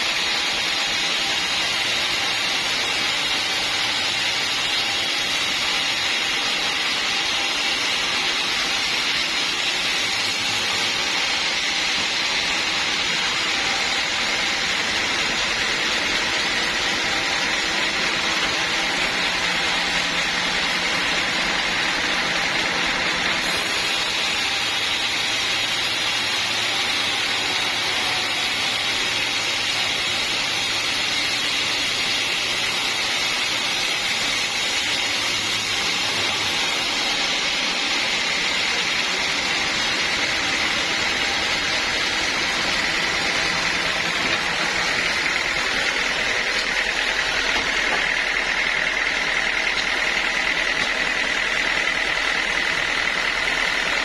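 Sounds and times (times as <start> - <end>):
sawmill blade cutting log: 0.0 - 54.0.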